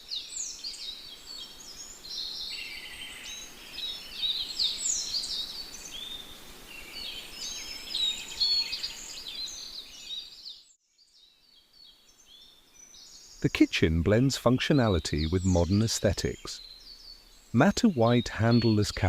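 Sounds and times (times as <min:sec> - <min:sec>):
faint steady hiss: 0:00.0 - 0:10.3, 0:11.0 - 0:19.0
songbirds chirping and singing: 0:00.1 - 0:19.0.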